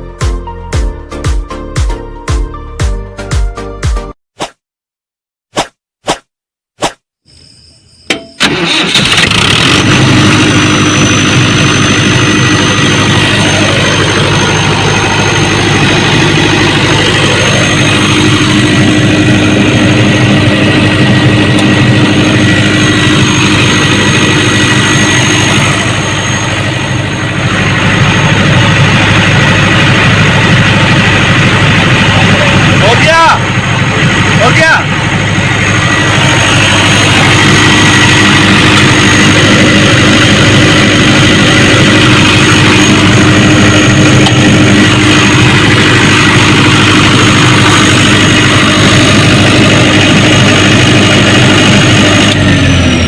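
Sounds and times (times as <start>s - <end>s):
diesel generator engine running: 8.1s - 53.0s.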